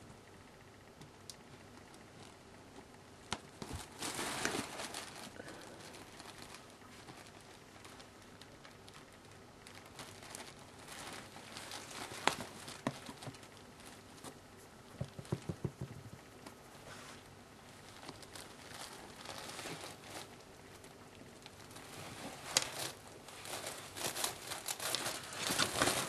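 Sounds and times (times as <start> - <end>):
fabric tunnel rustling and crinkling: 1.5 - 15.3, 16.8 - 26.0.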